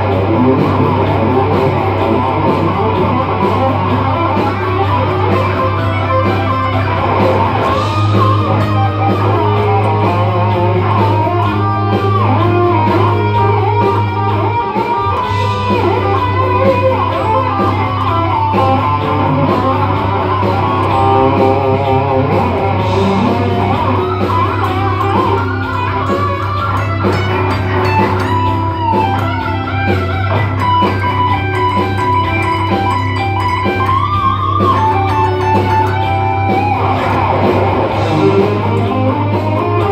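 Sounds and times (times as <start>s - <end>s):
electric guitar melody: 0.0s - 39.9s.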